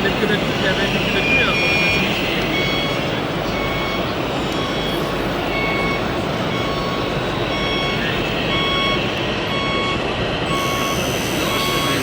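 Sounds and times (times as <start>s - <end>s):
noisy background: 0.0s - 12.0s
reversing alarm beeping: 0.0s - 12.0s.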